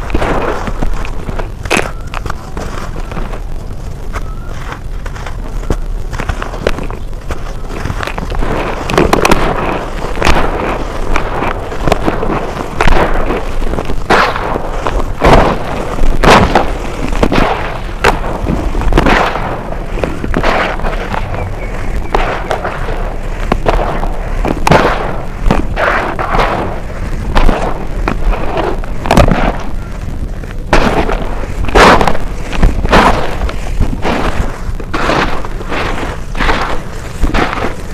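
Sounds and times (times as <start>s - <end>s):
dirt crunching: 0.0s - 37.9s.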